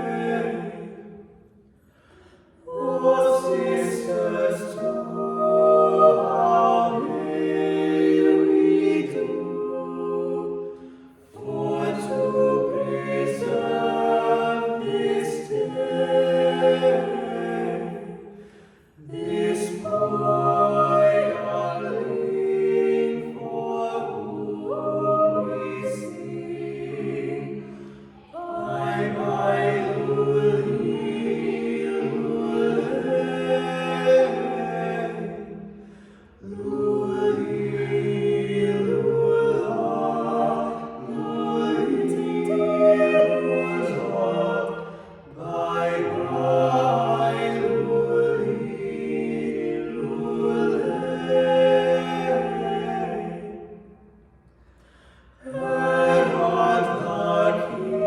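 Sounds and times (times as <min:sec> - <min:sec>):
unaccompanied choir singing: 0:00.0 - 0:58.0.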